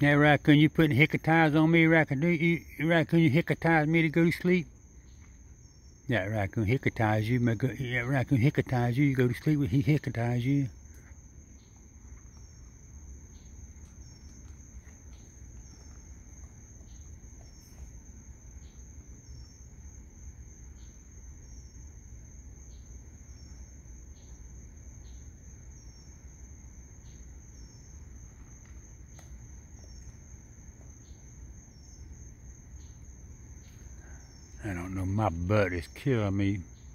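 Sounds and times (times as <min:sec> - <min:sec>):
low steady rumble: 0:00.0 - 0:36.9
night insects trilling: 0:00.0 - 0:36.9.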